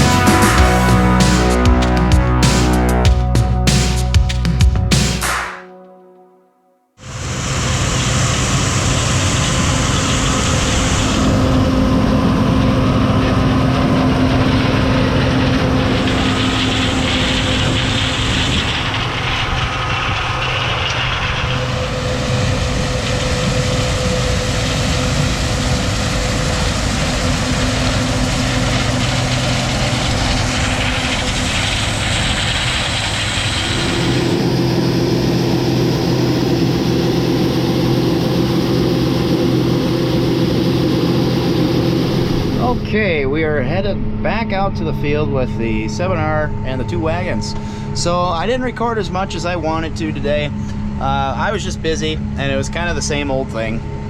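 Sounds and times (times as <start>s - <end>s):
diesel engines running: 0.0s - 5.4s, 7.2s - 43.2s, 46.7s - 54.0s.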